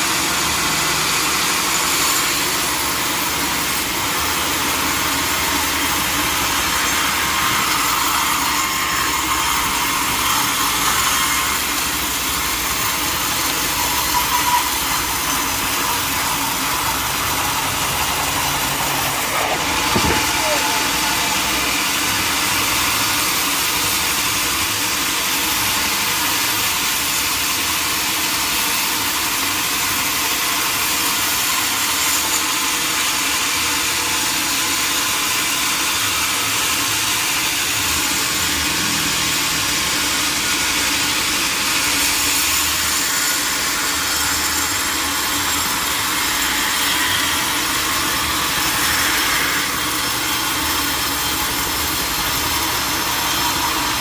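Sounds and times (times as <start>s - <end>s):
sawmill saw and engine running: 0.0s - 54.0s.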